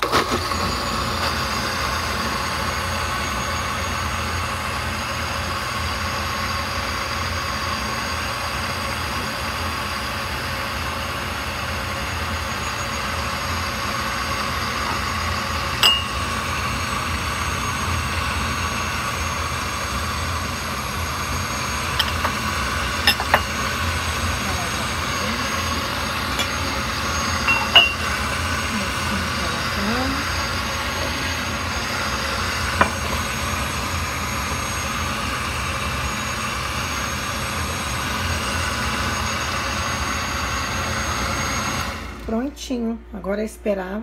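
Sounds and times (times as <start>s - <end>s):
blender running: 0.0s - 42.7s.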